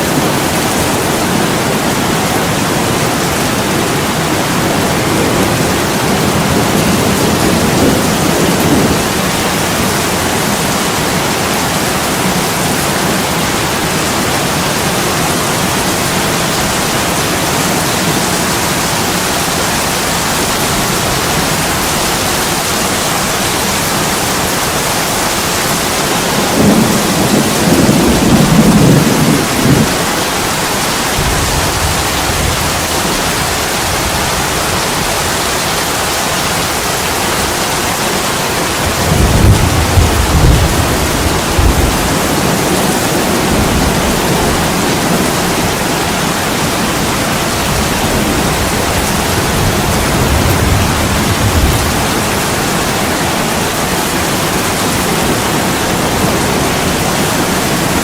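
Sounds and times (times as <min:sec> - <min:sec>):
low thunder rumbling: 0:00.0 - 0:24.4, 0:25.4 - 0:35.2, 0:38.6 - 0:53.8
heavy rain on window glass: 0:00.0 - 0:58.0.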